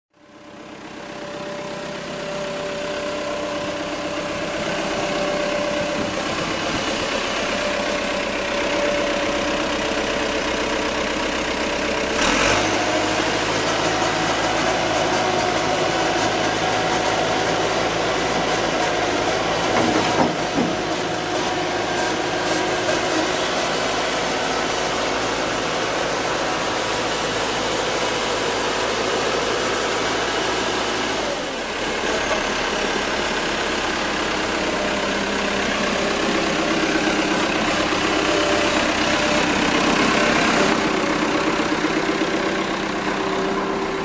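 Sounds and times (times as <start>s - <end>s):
diesel engine idling: 0.1s - 44.0s.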